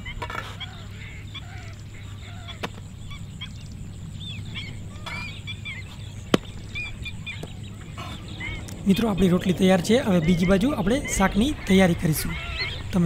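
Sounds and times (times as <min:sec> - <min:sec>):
birds chirping and calling: 0:00.0 - 0:13.0
low steady rumble: 0:00.0 - 0:13.0.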